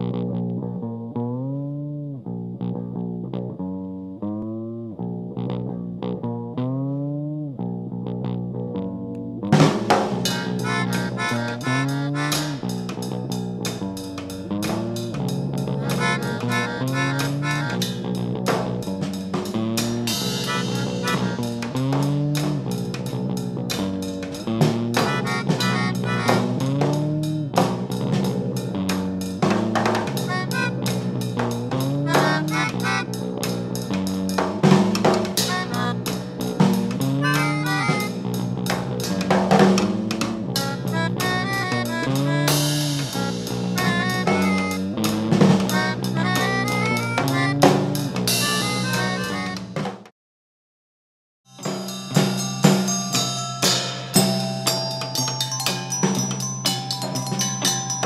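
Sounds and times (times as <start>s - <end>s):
instrumental music with steady beat: 0.0s - 50.1s, 51.5s - 58.0s.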